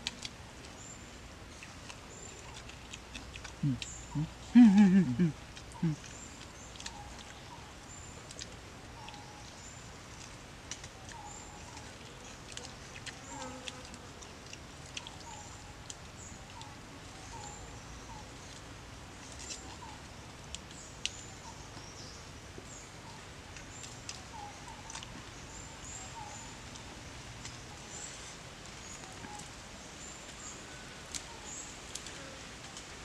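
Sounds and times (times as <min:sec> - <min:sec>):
small birds chirping: 0:00.0 - 0:32.1.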